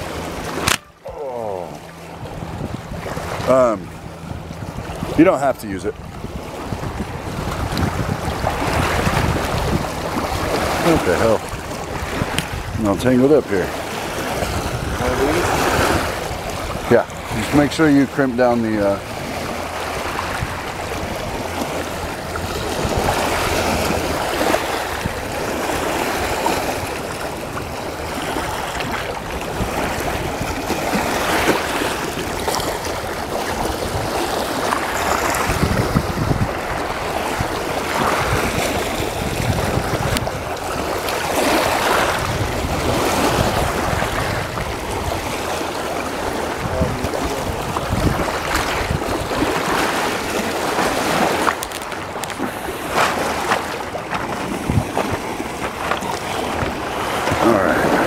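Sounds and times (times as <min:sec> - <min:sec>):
river water splashing over rocks: 0:00.0 - 0:05.5, 0:06.5 - 0:58.0.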